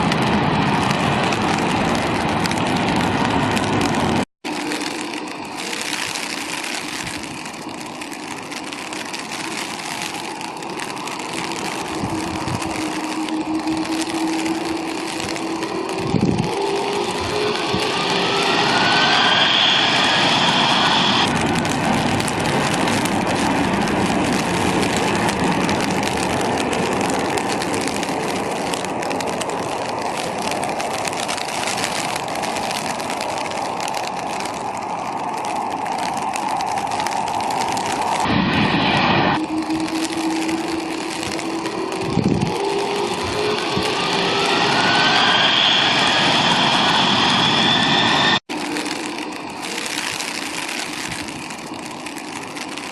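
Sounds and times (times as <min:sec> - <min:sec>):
jet engines running: 0:00.0 - 0:34.8, 0:35.4 - 0:52.9
high engine whine: 0:00.0 - 0:52.9.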